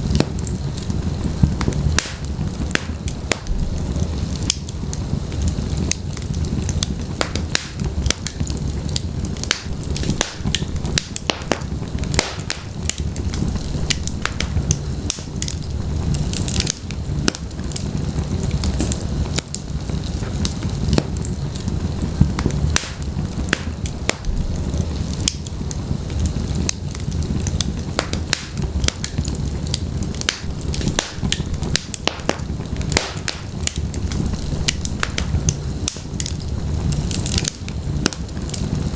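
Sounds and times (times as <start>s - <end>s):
low rumble of flame: 0.0s - 38.9s
wood fire crackling and popping: 0.0s - 38.9s.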